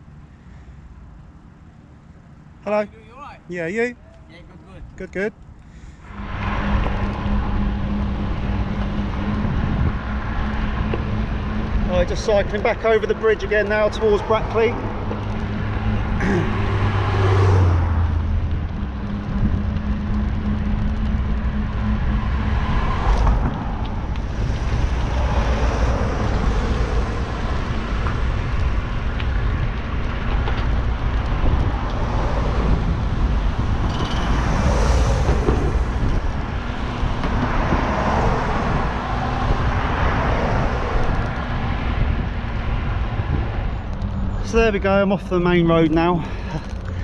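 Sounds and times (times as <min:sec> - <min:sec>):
cars passing: 0:00.0 - 0:47.0
steady low traffic rumble: 0:00.0 - 0:47.0.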